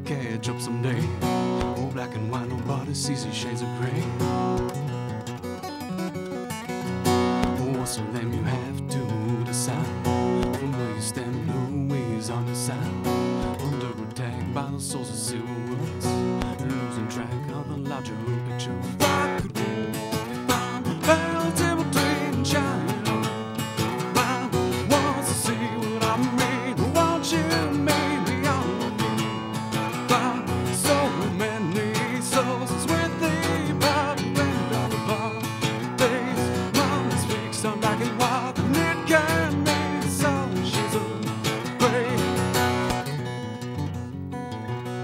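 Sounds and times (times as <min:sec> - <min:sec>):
person singing: 0:00.0 - 0:04.9, 0:07.0 - 0:43.1
strummed acoustic guitar: 0:00.0 - 0:45.0.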